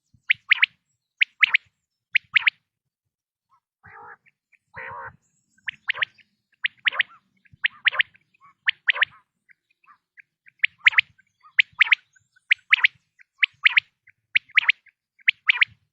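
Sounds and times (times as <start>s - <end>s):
quail singing: 0.2s - 2.6s, 3.5s - 15.8s.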